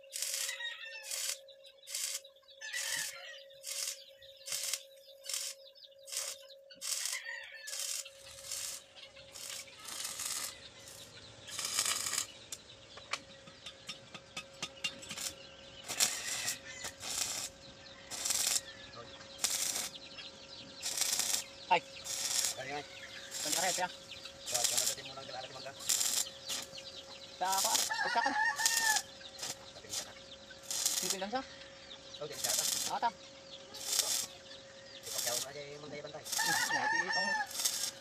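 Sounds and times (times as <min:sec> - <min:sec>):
welding arc crackling: 0:00.0 - 0:12.7, 0:14.6 - 0:20.0, 0:20.8 - 0:31.4, 0:32.2 - 0:38.0.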